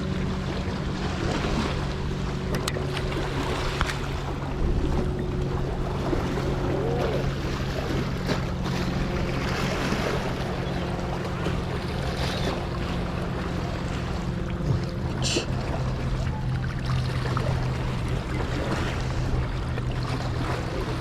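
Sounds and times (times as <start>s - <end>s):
low engine hum: 0.0s - 21.0s
water noise: 0.0s - 21.0s
wind: 0.0s - 21.0s.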